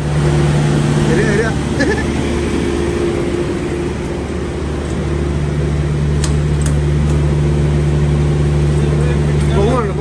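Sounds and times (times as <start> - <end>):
truck diesel engine droning: 0.0 - 10.0.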